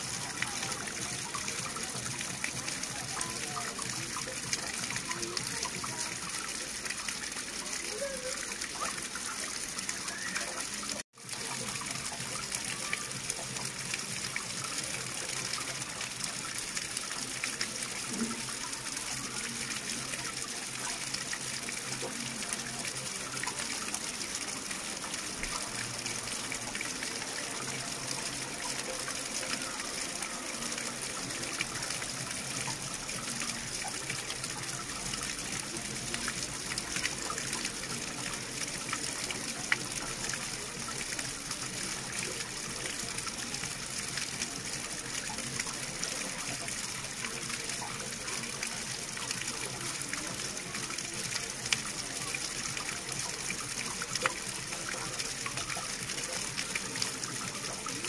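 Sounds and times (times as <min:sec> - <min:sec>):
flowing water splashing: 0:00.0 - 0:58.0.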